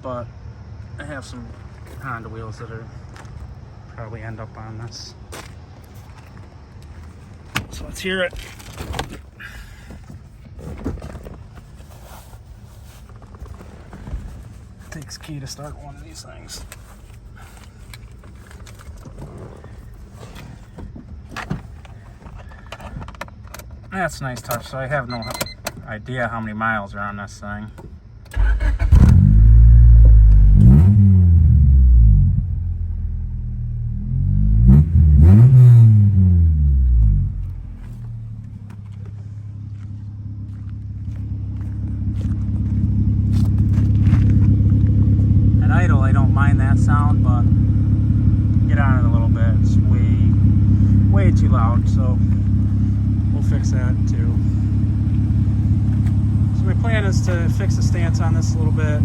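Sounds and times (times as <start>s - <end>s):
car engine idling: 0.0s - 25.2s, 28.0s - 59.0s.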